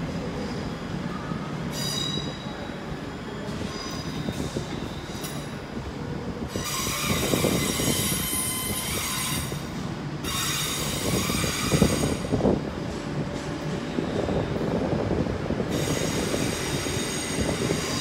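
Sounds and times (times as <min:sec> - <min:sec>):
low train rumble: 0:00.0 - 0:18.0
train wheels squealing on rails: 0:00.4 - 0:05.8, 0:06.4 - 0:15.0, 0:15.6 - 0:18.0.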